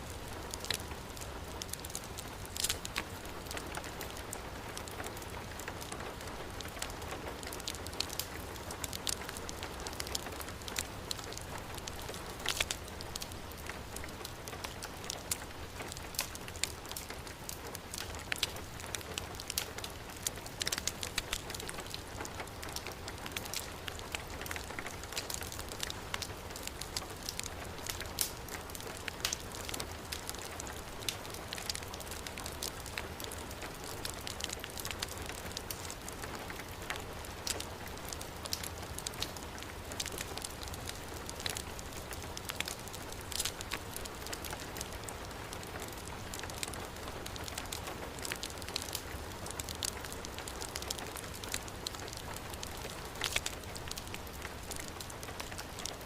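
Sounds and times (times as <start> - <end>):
wood fire popping and crackling: 0.0 - 56.0.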